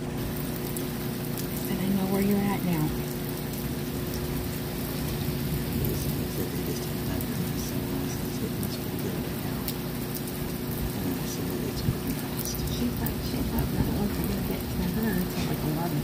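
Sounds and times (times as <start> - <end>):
steady rain: 0.0 - 16.0
drops ticking: 0.2 - 16.0
low rumble: 2.8 - 16.0.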